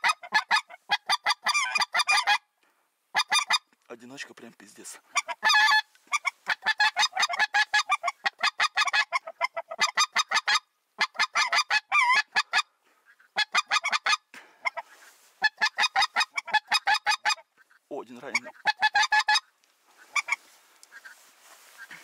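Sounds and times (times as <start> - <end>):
goose call honking: 0.0 - 2.4, 3.1 - 3.7, 5.0 - 22.0.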